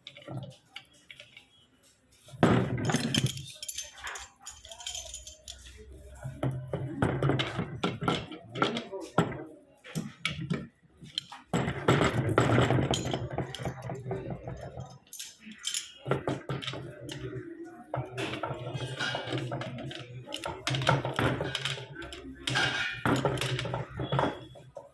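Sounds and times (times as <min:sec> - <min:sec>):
tools and metal pipes clinking: 0:00.0 - 0:24.9.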